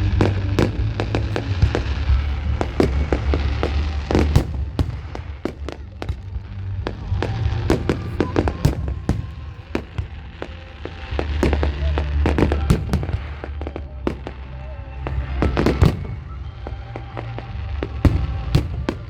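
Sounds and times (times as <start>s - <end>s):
fireworks bangs and crackling: 0.0s - 19.0s
music playing: 0.0s - 19.0s.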